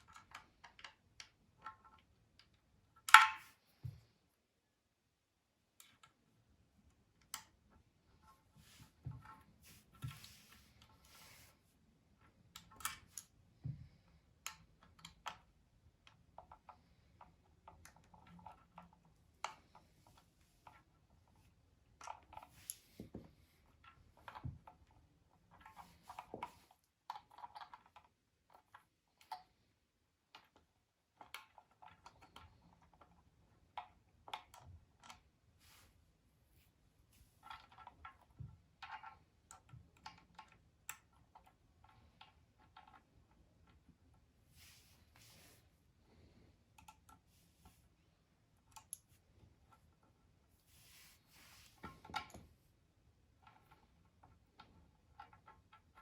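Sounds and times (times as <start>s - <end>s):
faint clicks and taps of tools: 0.0s - 4.1s, 5.7s - 11.4s, 12.1s - 35.8s, 37.4s - 52.6s.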